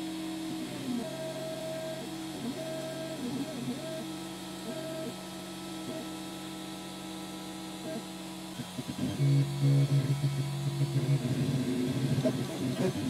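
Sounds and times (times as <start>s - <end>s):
printer stepper motors humming: 0.0s - 13.0s.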